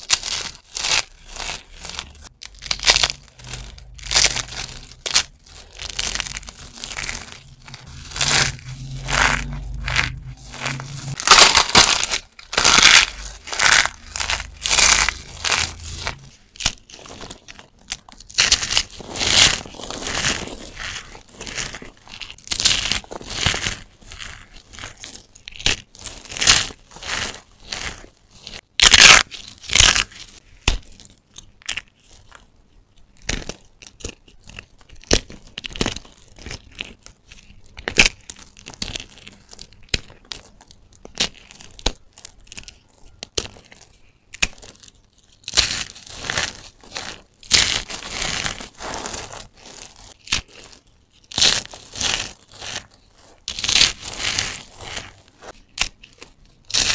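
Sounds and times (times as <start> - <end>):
hands crunching shaved soap: 0.0 - 56.9.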